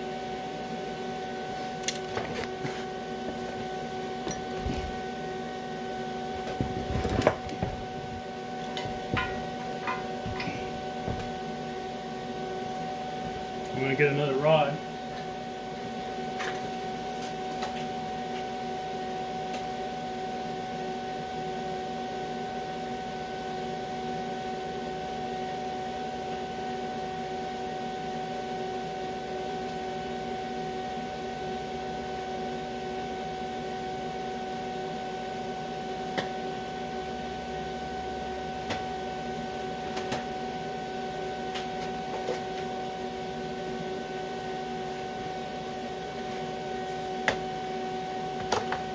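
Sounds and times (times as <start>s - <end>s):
welding machine electrical hum: 0.0s - 48.9s.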